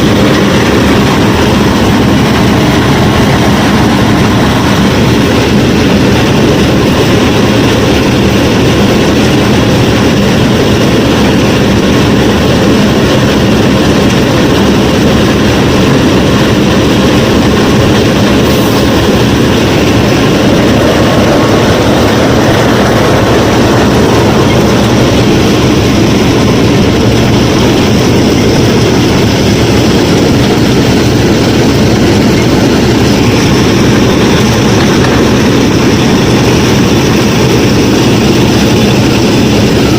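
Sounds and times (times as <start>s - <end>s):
low hum: 0.0s - 39.7s.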